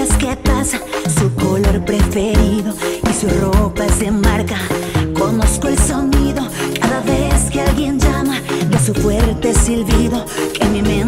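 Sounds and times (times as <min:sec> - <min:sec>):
drums and bass dance beat: 0:00.0 - 0:11.0
melodic lead line: 0:00.0 - 0:11.0
person singing: 0:00.0 - 0:11.0.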